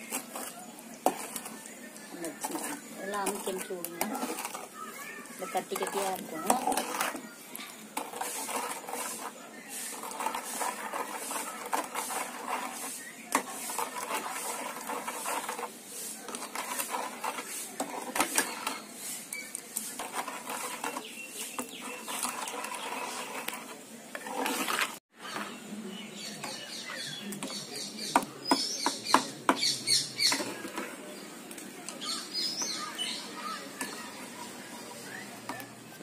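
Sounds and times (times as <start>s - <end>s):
ladle scraping metal pan: 0.0s - 31.3s, 32.0s - 35.8s.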